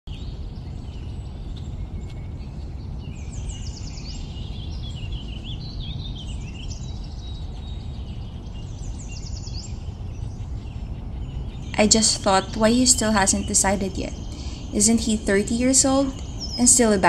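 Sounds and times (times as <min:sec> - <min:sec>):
birds singing: 0:00.1 - 0:17.0
steady low rumble: 0:00.1 - 0:17.0.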